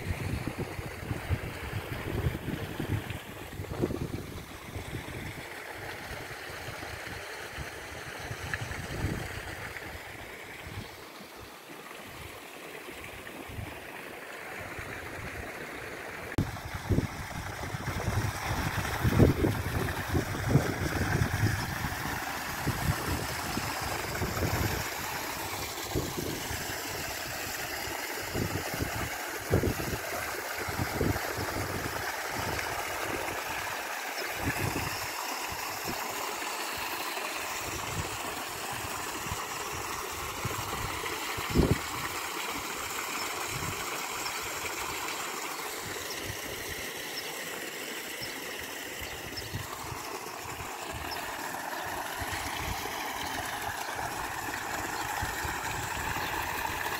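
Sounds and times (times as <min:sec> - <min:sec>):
water splashing into a pool: 0:00.0 - 0:56.9.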